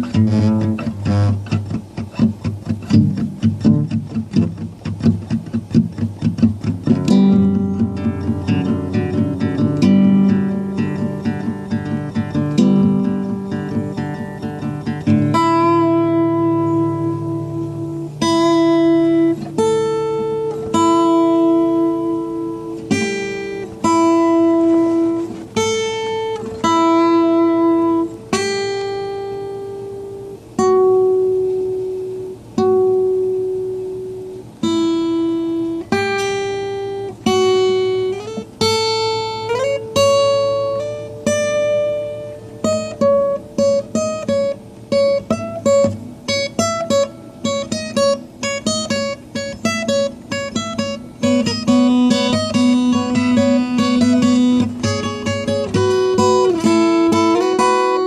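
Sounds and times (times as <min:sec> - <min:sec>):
acoustic guitar melody: 0:00.0 - 0:58.0.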